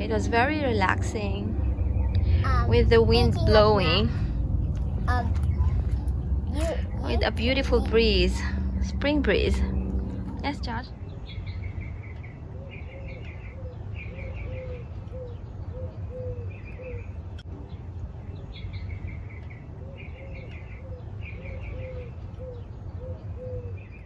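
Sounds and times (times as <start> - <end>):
low rumble: 0.0 - 20.5
birds chirping: 0.0 - 24.0.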